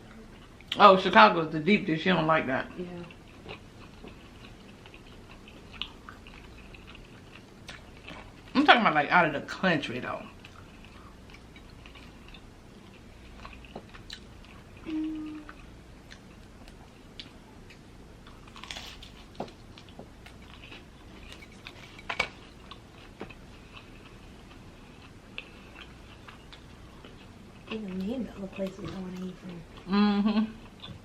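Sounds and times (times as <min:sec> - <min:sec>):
close-up chewing: 0:03.0 - 0:08.6, 0:10.1 - 0:29.9.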